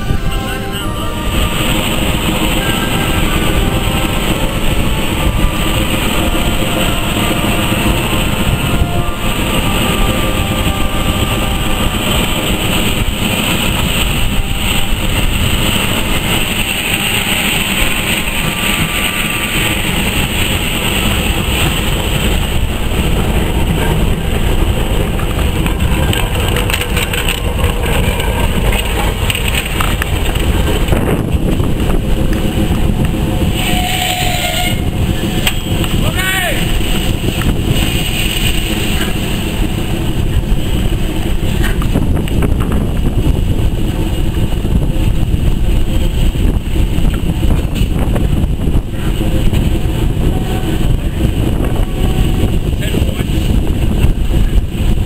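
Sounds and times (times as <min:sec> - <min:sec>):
steam engine hiss and rumble: 0:00.0 - 0:55.0.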